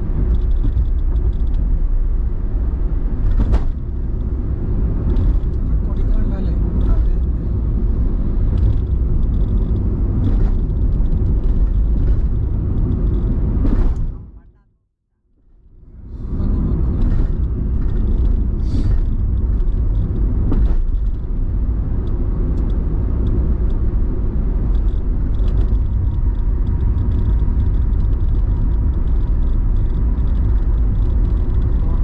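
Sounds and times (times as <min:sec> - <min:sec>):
car driving at highway speed: 0:00.0 - 0:14.6, 0:15.4 - 0:32.0.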